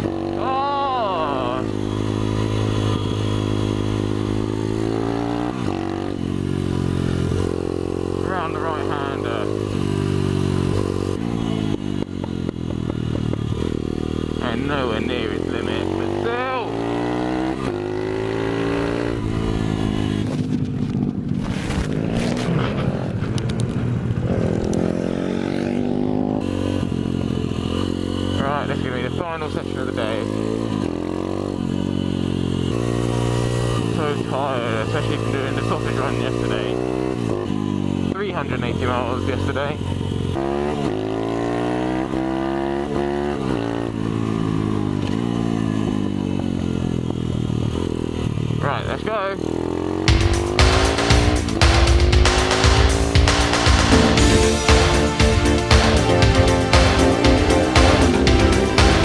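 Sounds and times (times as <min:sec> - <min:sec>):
small motorbike engine revving: 0:00.0 - 0:59.0.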